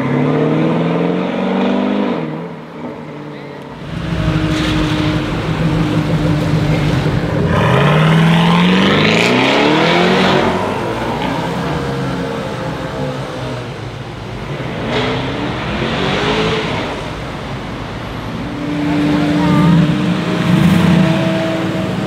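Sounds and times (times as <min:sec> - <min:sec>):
car engine running at low revs: 0:03.6 - 0:22.0
car exhaust accelerating hard: 0:03.7 - 0:22.0.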